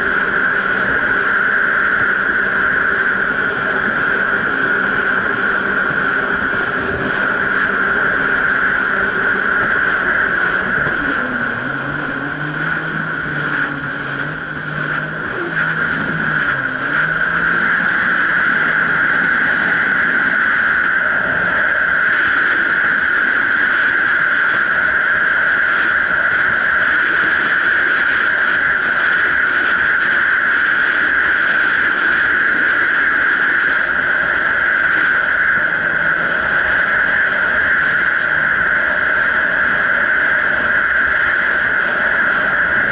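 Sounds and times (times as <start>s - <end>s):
high rushing water noise: 0.0s - 42.9s
jet ski engine: 0.0s - 42.9s.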